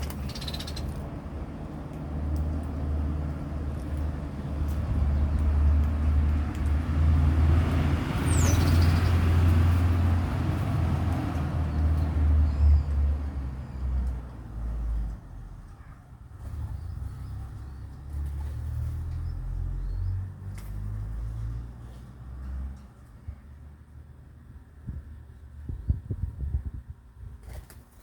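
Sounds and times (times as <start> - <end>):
vehicle passing by: 0.0 - 15.6, 16.3 - 23.6.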